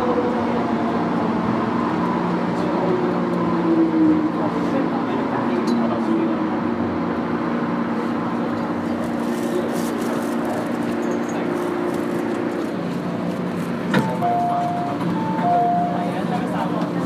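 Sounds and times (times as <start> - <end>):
train motor hum: 0.0 - 17.0.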